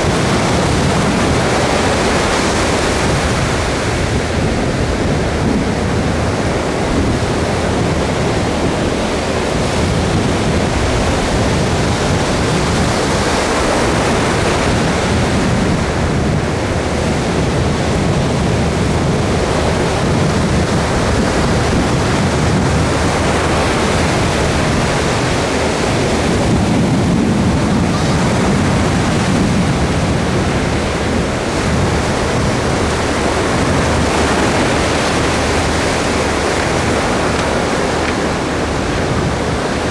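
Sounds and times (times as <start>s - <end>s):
ocean surf breaking on sand: 0.0s - 39.9s.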